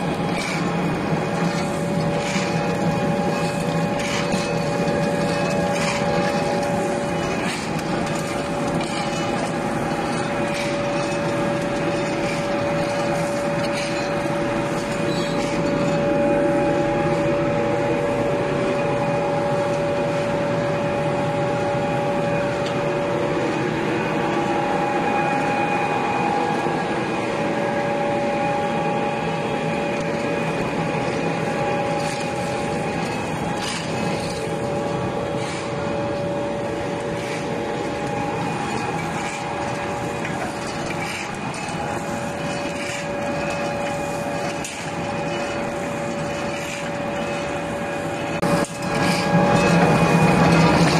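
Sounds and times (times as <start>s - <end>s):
constant machine whine: 0.0s - 50.9s
pellet mill drone: 0.0s - 50.9s.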